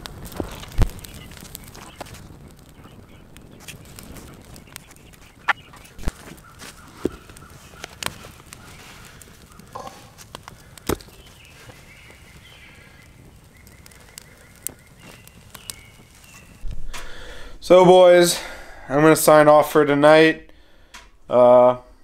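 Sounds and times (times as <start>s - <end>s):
campfire crackling and popping: 0.0s - 21.8s.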